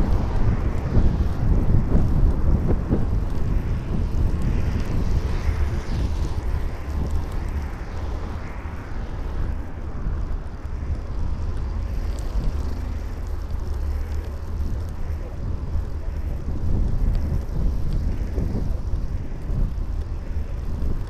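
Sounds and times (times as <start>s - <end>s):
street traffic: 0.0s - 21.0s
wind buffeting microphone: 0.0s - 21.0s.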